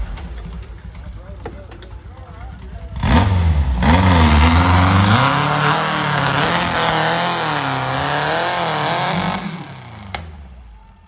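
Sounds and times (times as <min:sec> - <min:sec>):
buggy engine revving: 0:00.0 - 0:10.9.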